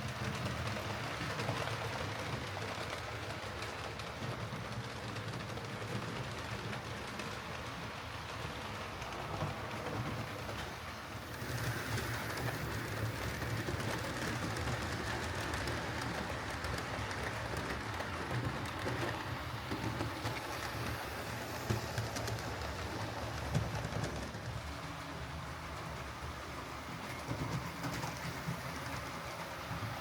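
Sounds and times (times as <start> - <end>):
wheels rumbling on rails: 0.0 - 30.0.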